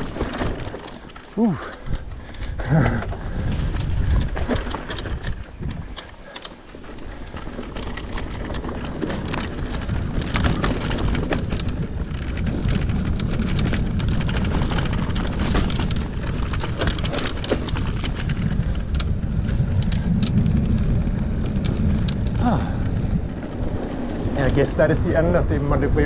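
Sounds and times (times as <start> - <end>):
bike clicks and rattles: 0.0 - 26.0
tyres rumbling on dirt and stones: 0.0 - 26.0.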